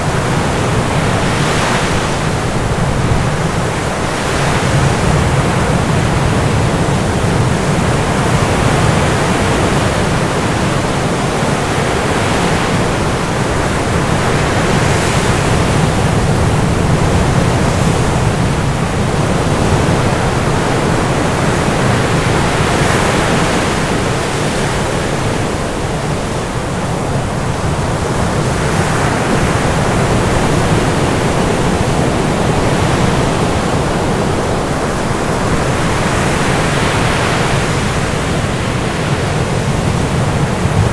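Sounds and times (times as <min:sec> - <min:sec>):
loud steady rushing noise: 0:00.0 - 0:40.9.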